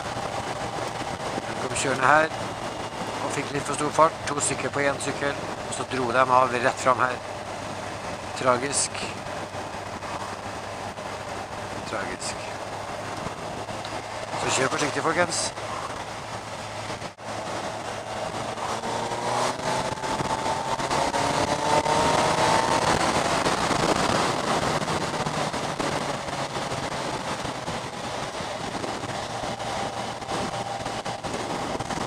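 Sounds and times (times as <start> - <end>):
motorcycle engine accelerating: 0.0 - 32.0
wind and road noise: 0.0 - 32.0.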